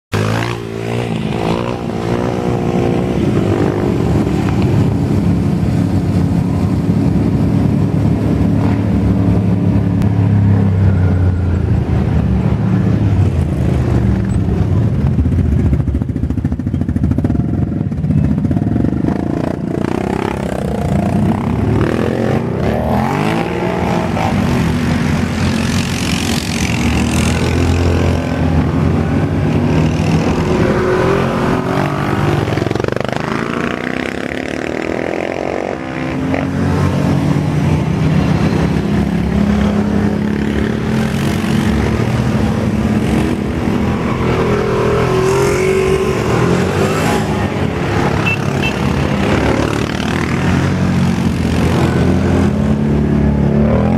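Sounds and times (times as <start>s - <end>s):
quad bike engines revving: 0.1s - 53.9s.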